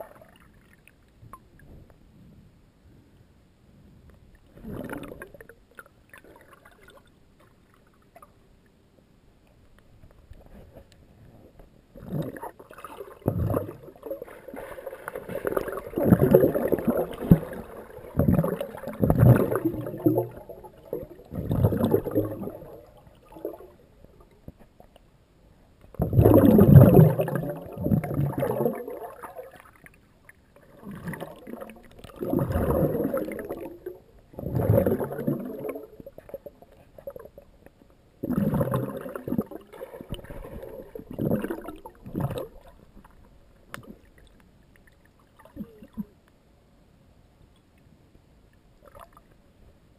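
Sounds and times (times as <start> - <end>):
underwater bubbling and gurgling: 0.0 - 2.0, 4.2 - 8.8, 10.0 - 46.3, 48.8 - 49.5.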